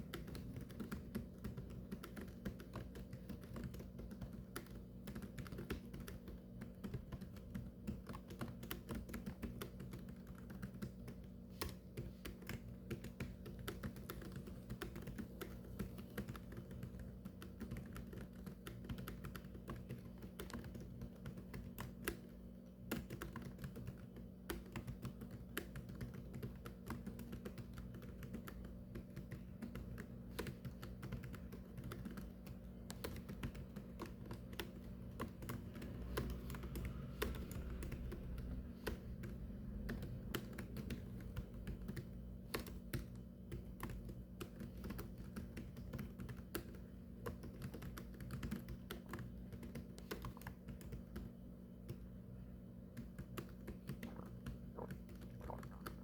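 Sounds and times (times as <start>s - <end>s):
fast typing on a keyboard: 0.0s - 56.0s
low steady hum: 0.0s - 56.0s.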